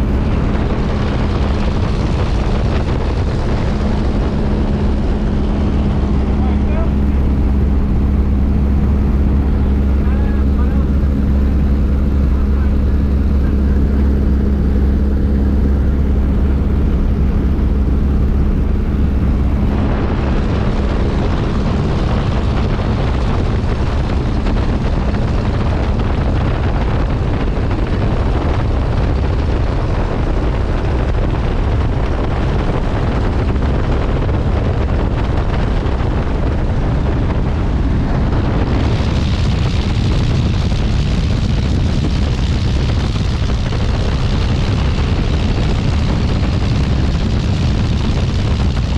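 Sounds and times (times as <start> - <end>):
propeller plane engine at high power: 0.0 - 48.9.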